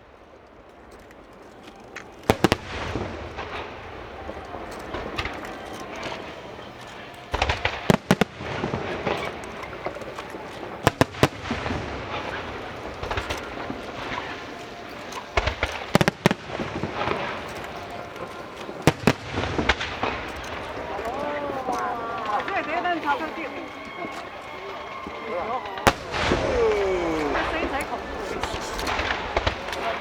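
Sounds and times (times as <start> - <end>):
fireworks crackling: 0.0 - 30.0
fireworks bursting with loud bangs: 1.8 - 30.0.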